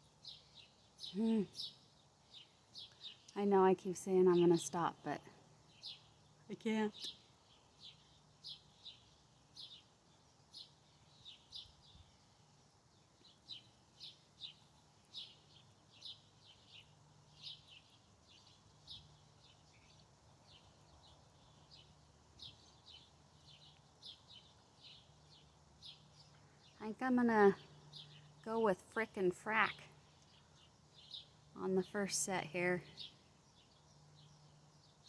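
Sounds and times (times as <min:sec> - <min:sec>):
bird chirping: 0:04.3 - 0:35.0.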